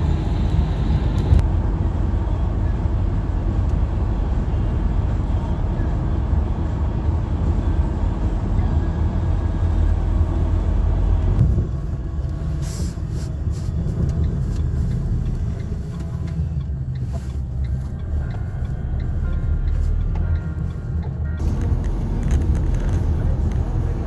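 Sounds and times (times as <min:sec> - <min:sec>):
van road rumble from inside: 0:00.0 - 0:24.0.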